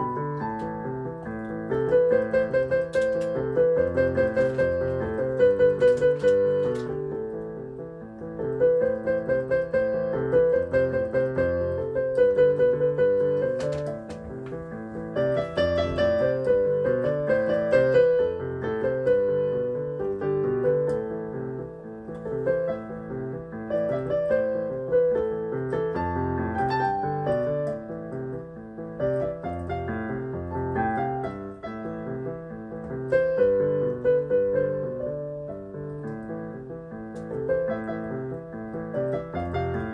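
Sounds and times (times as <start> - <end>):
keyboard piano tune: 0.0 - 39.9.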